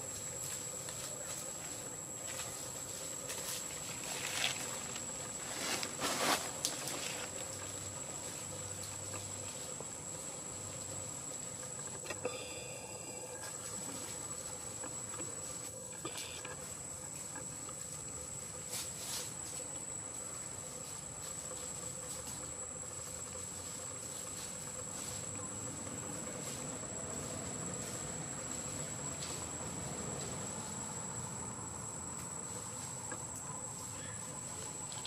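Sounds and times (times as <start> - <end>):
background hiss: 0.0 - 35.0
high-pitched insect drone: 0.0 - 35.0.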